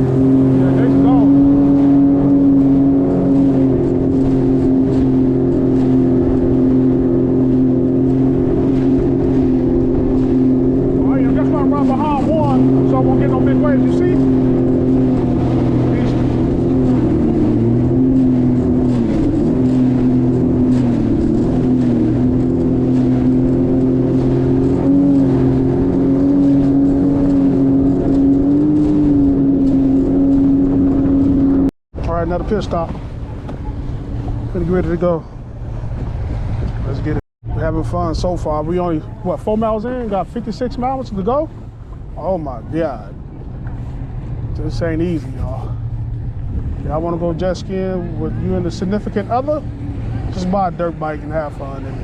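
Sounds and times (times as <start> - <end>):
jet ski engine droning: 0.0 - 52.0.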